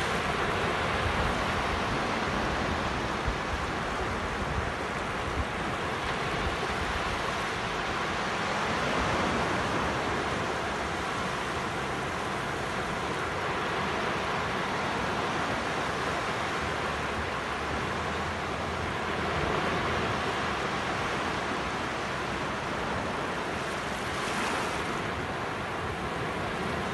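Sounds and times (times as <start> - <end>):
waves washing up a beach: 0.0 - 26.9.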